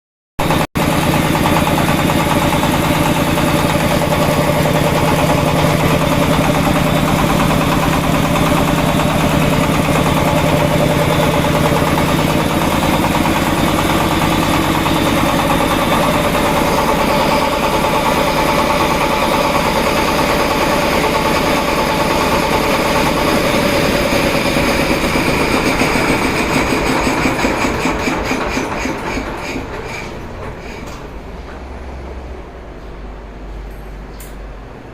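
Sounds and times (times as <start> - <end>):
engine driving air compressor: 0.4 - 34.9.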